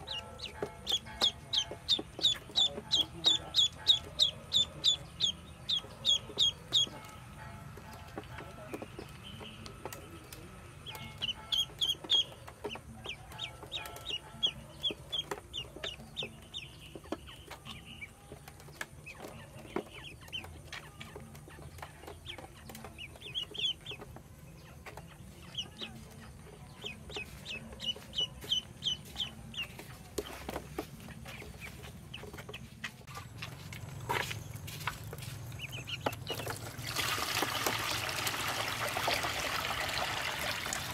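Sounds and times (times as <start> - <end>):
ducklings peeping: 0.0 - 36.8.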